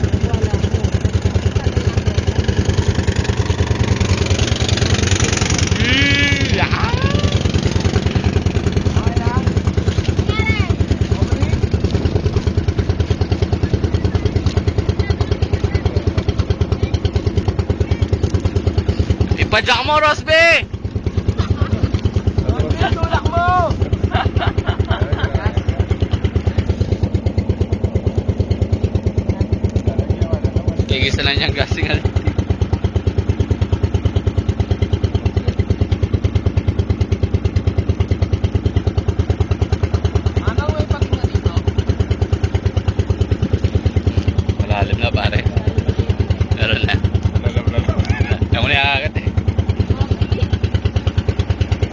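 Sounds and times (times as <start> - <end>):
boat engine chugging: 0.0 - 51.9.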